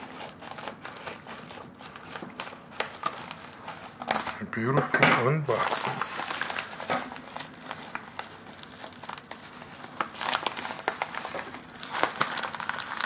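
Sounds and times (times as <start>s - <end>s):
paper packaging crinkling: 0.0s - 13.0s.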